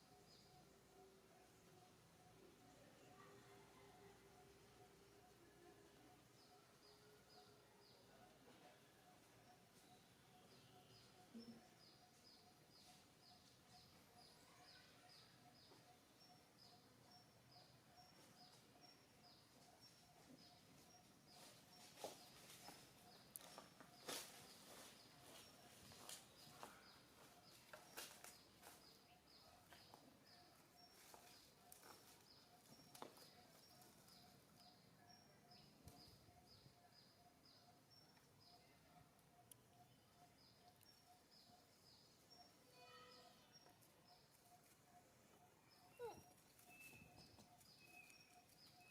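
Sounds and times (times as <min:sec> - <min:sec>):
faint outdoor ambience: 0:00.0 - 0:48.9.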